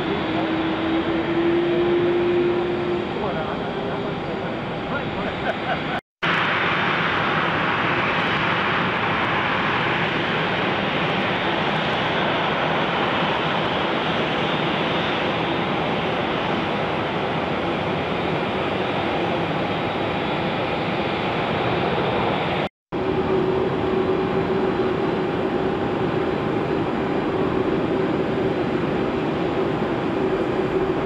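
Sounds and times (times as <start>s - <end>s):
jet engines rushing hum: 0.0s - 31.0s.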